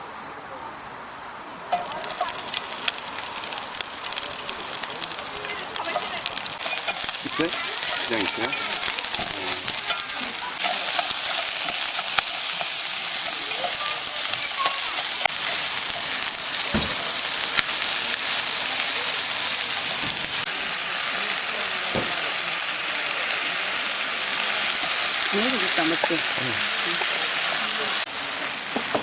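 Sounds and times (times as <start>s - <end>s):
food sizzling on a grill pan: 1.6s - 29.0s.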